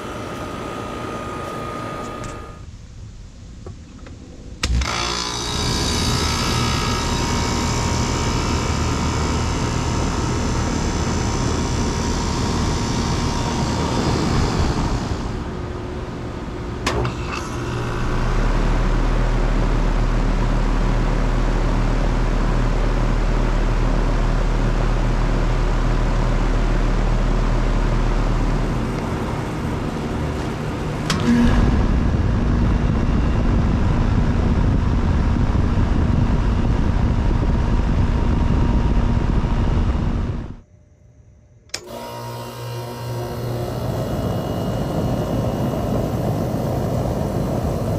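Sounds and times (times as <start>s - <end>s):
air conditioner unit running: 0.0s - 2.7s, 5.7s - 40.6s, 41.8s - 47.9s
condenser low hum: 0.0s - 2.7s, 3.6s - 47.9s.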